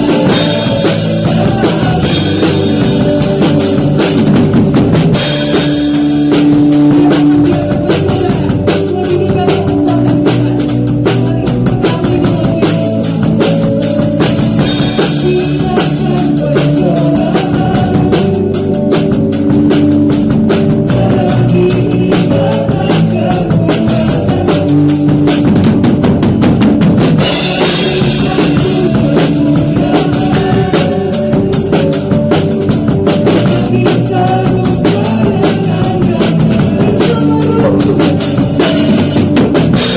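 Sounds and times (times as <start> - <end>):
acoustic drum kit playing: 0.0 - 39.9
sustained keyboard guitar and bass: 0.0 - 39.9.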